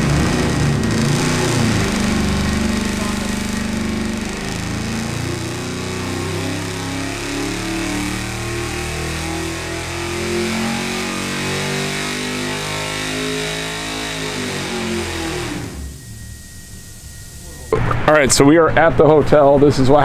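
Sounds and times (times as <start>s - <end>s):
engine running on dynamometer: 0.0s - 19.4s.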